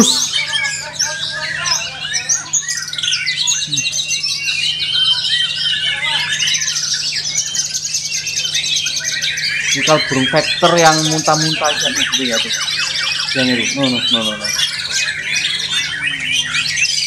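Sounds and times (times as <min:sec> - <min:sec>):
songbird singing rapid trills: 0:00.0 - 0:17.0.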